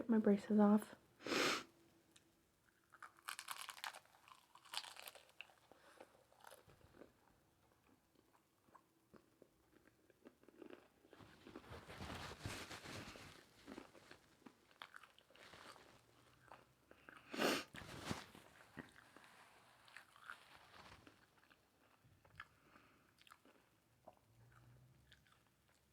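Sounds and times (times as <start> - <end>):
crunching and chewing taco: 2.2 - 25.9.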